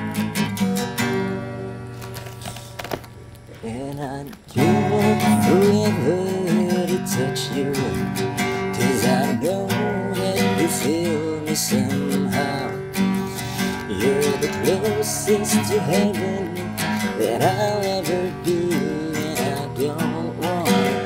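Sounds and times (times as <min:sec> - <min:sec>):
acoustic guitar strumming: 0:00.0 - 0:21.0
man singing: 0:03.5 - 0:21.0.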